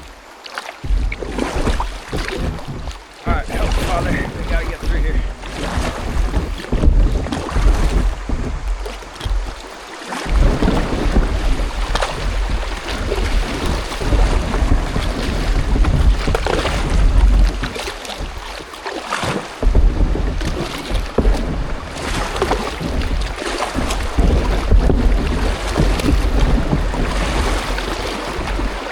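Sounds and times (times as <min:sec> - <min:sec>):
paddle strokes: 0:00.0 - 0:28.9
water splashing: 0:00.0 - 0:28.9
wind rumbling on microphone: 0:00.8 - 0:28.9.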